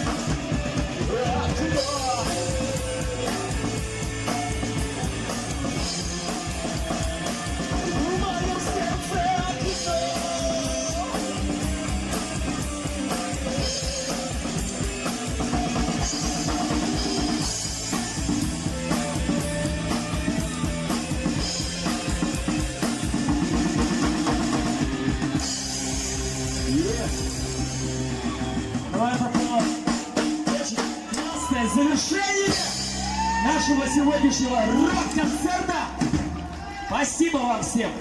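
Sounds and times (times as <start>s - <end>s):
electric guitar: 0.0s - 36.8s
bass guitar: 0.0s - 38.0s
drum kit beat: 0.0s - 38.0s.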